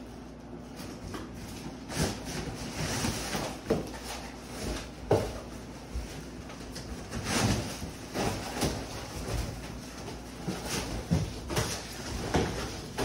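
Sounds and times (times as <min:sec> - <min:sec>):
cardboard rubbing and scraping: 0:01.8 - 0:13.0.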